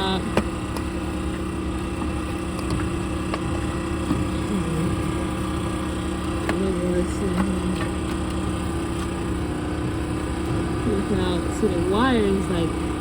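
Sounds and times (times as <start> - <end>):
construction machinery engine running: 0.0 - 13.0.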